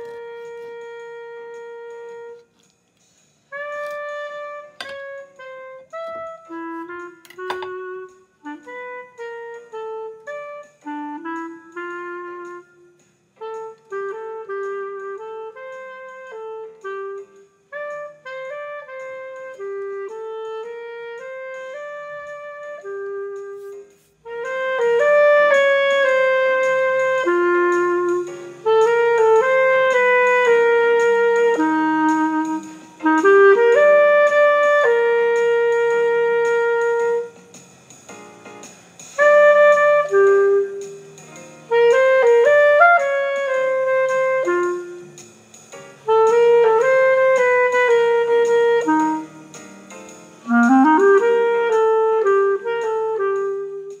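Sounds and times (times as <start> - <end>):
clarinet jazz melody: 0.0 - 54.0
quiet musical backing: 0.0 - 54.0.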